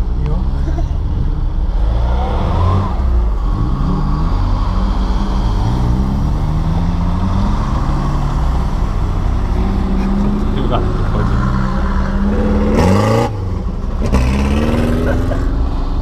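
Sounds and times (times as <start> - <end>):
engines idling: 0.0 - 16.0
off-road vehicles accelerating: 0.0 - 16.0.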